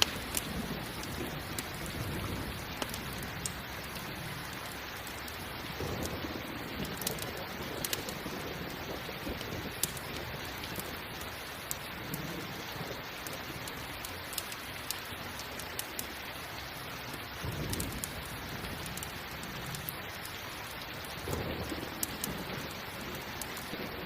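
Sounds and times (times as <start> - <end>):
low rumble of thunder: 0.0 - 13.9, 17.4 - 20.2, 21.0 - 24.0
campfire crackling and popping: 0.0 - 24.0
steady rain: 0.0 - 24.0.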